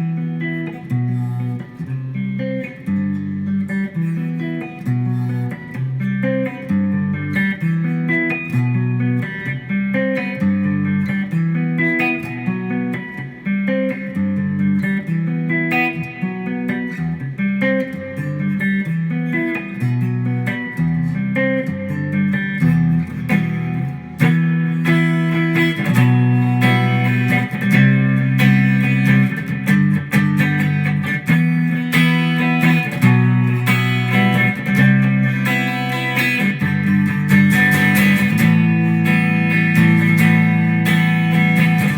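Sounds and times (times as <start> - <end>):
guitar playing notes and chords: 0.0 - 41.9.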